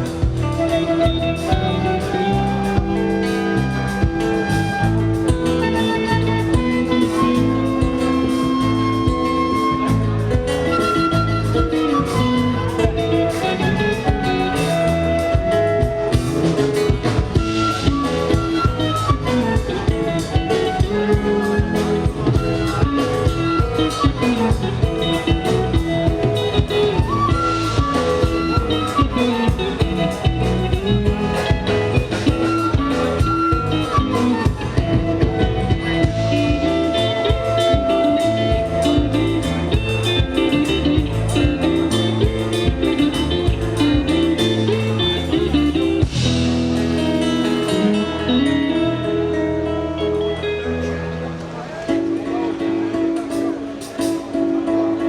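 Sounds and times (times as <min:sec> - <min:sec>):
drums: 0:00.0 - 0:55.0
guitar melody: 0:00.0 - 0:55.0
live band playing: 0:00.0 - 0:55.0.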